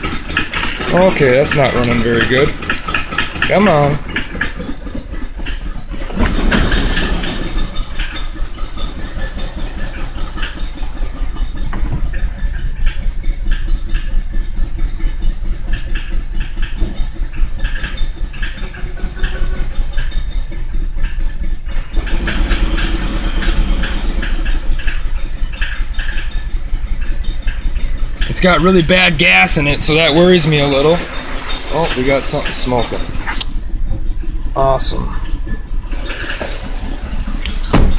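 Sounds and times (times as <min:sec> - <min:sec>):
car engine idling roughly: 0:00.0 - 0:37.9.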